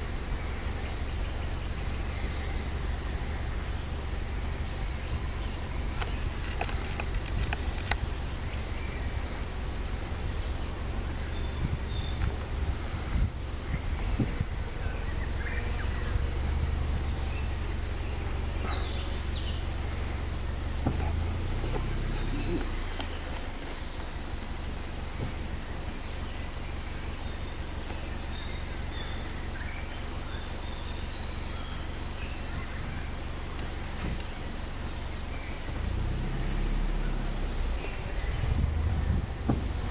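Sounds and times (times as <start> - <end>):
high-pitched insect drone: 0.0 - 39.9
low rumble: 0.0 - 39.9
bird chirps: 0.3 - 39.9.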